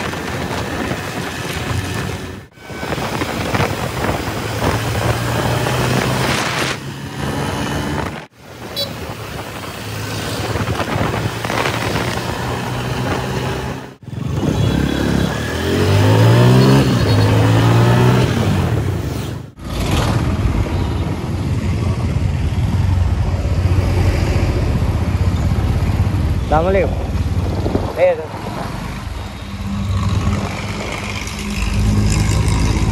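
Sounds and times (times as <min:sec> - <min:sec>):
road noise: 0:00.0 - 0:32.9.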